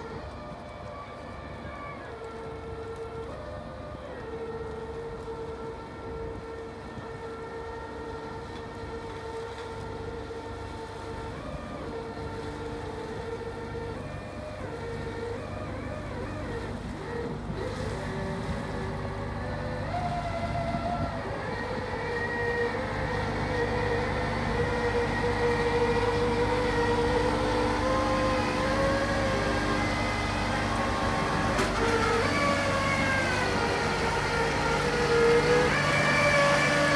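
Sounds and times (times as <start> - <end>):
boat engine droning with whine: 0.0 - 36.9.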